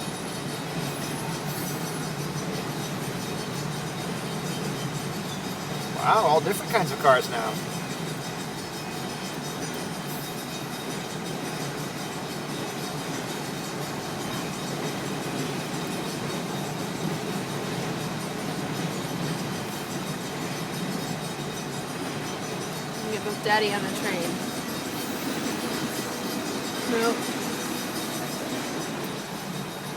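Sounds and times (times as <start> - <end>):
train wheels on rails: 0.0 - 29.9.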